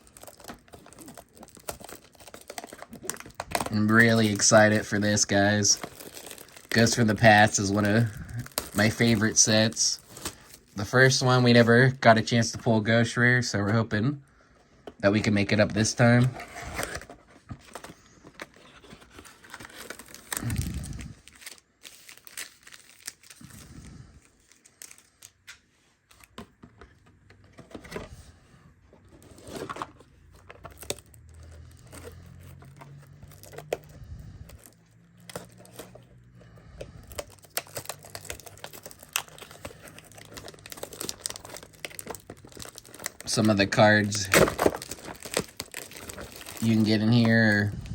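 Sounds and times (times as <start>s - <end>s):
cardboard and plastic tearing: 0.0s - 11.6s, 15.2s - 23.7s, 29.1s - 47.8s
wrapping crinkling: 0.0s - 11.8s, 15.0s - 26.4s, 29.1s - 47.9s.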